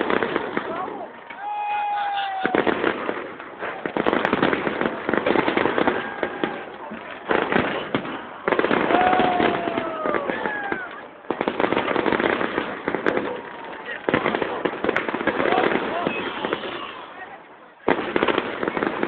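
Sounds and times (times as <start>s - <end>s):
fireworks crackling: 0.0s - 19.0s
fireworks whistling: 1.4s - 19.0s.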